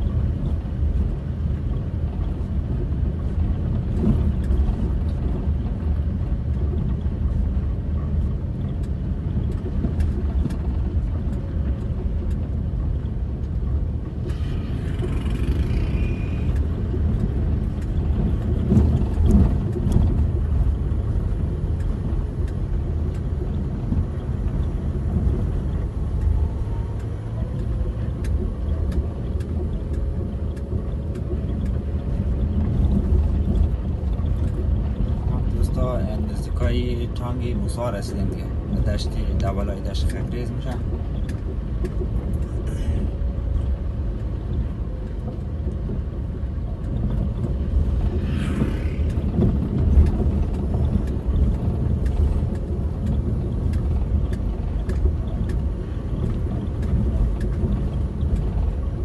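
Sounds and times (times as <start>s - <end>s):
car rumbling on gravel road: 0.0s - 59.0s.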